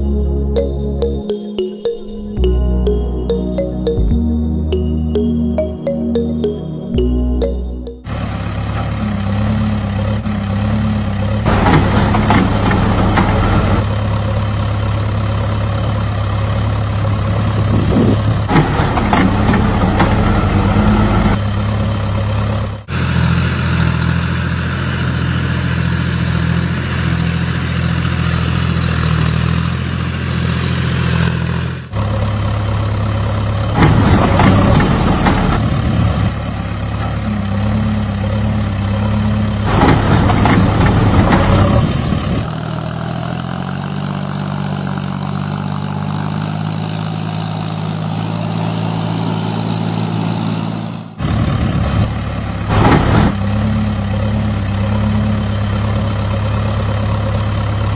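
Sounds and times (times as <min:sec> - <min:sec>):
tractor engine idling: 0:02.4 - 0:57.9.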